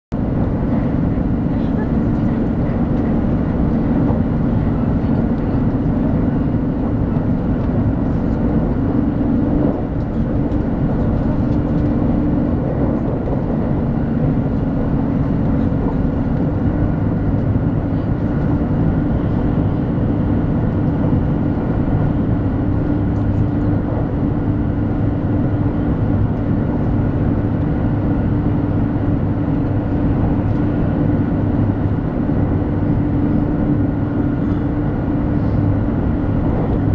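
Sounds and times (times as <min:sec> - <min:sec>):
train cabin rumble: 0:00.1 - 0:36.9.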